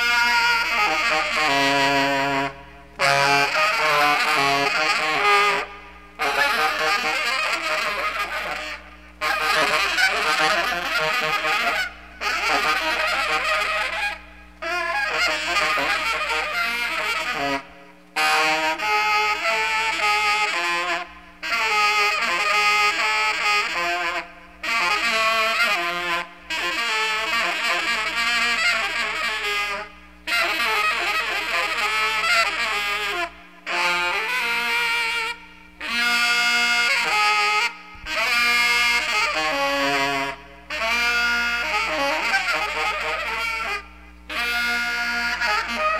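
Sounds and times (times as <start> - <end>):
free jazz saxophone phrases: 0.0 - 45.9.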